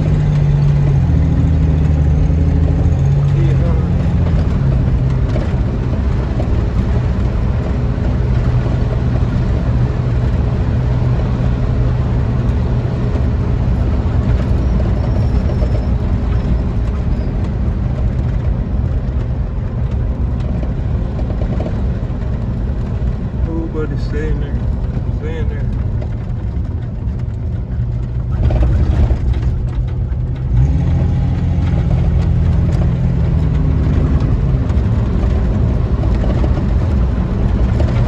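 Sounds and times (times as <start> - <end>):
pickup truck engine drone: 0.0 - 38.0
road noise: 0.0 - 38.0.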